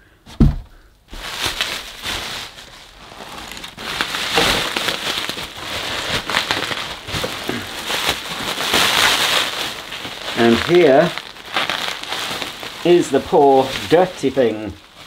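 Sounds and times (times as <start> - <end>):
bubble wrap crinkling: 0.7 - 15.0.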